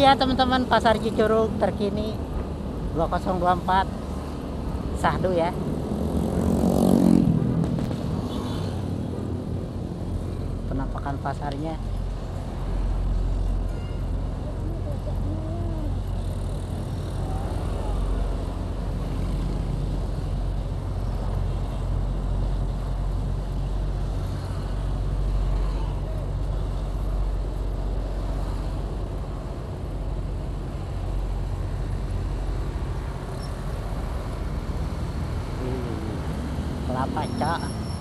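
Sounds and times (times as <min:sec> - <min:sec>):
road and traffic noise: 0:00.0 - 0:38.0.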